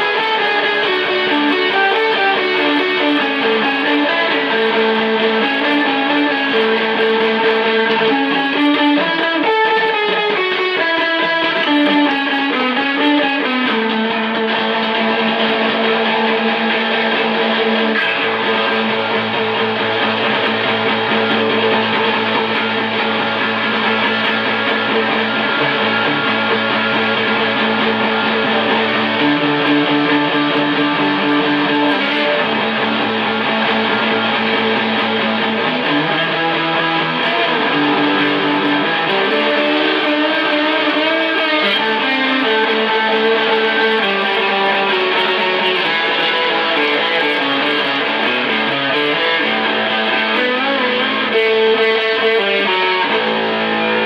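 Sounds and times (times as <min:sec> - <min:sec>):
electric guitar chords: 0:00.0 - 0:54.0.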